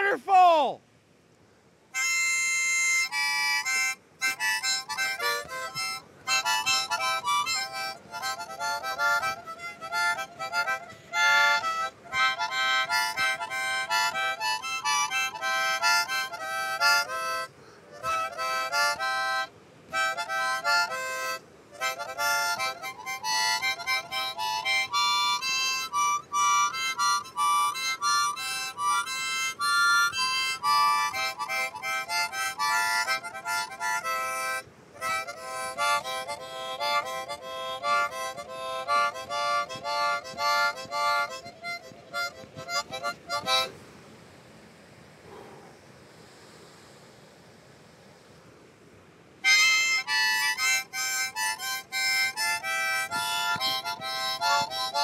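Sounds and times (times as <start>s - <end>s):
harmonica playing: 2.0s - 43.8s, 49.4s - 55.0s.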